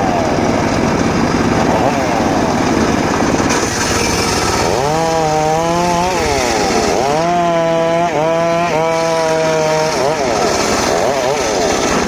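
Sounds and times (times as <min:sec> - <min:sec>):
circular saw cutting wood: 0:00.0 - 0:12.0.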